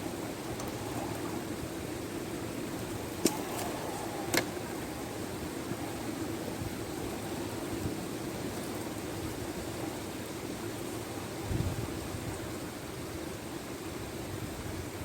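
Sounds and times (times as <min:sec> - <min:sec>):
river rushing: 0:00.0 - 0:14.6.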